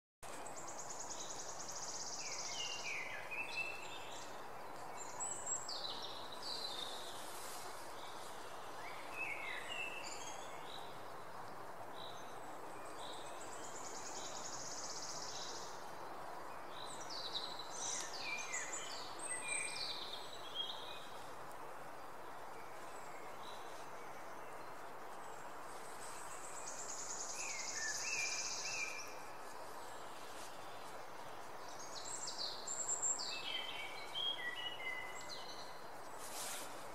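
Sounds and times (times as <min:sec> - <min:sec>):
steady background hiss: 0:00.2 - 0:36.9.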